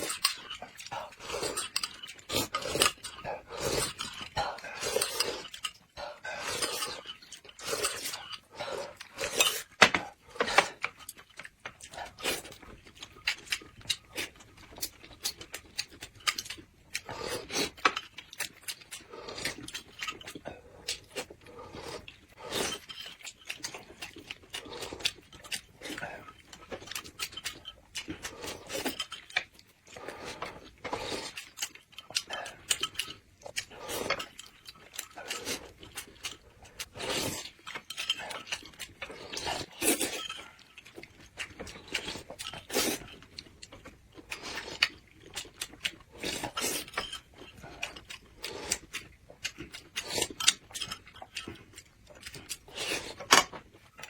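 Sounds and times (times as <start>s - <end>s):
wet chewing and mouth smacking: 0.0s - 54.0s.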